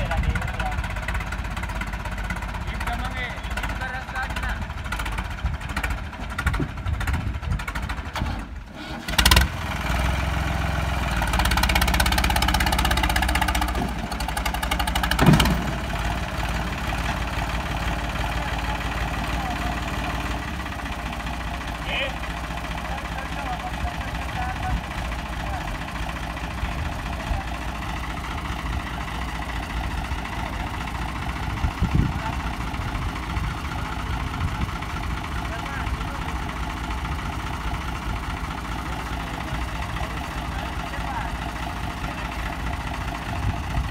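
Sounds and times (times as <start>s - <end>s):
tractor engines running hard: 0.0s - 43.9s.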